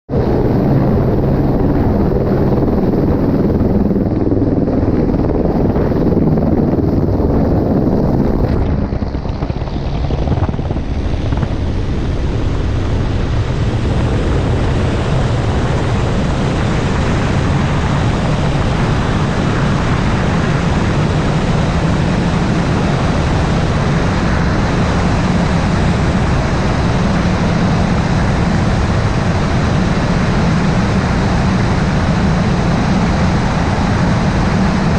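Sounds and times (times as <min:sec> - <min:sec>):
helicopter engine and rotor: 0:00.1 - 0:34.9.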